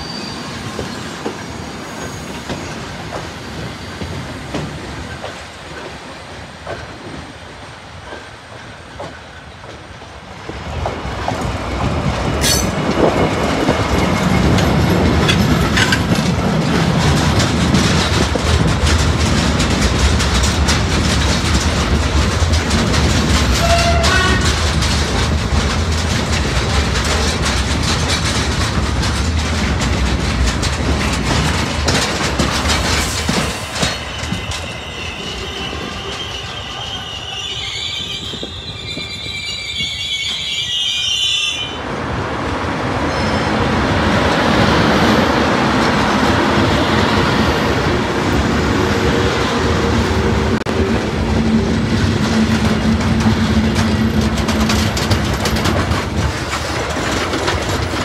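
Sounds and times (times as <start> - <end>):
train passing on rails: 0.0 - 58.0.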